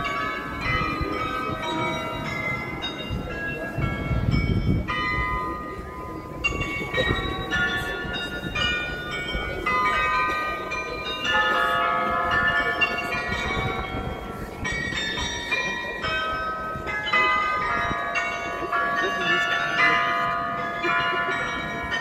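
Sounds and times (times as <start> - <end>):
tower bells playing a tune: 0.0 - 22.0.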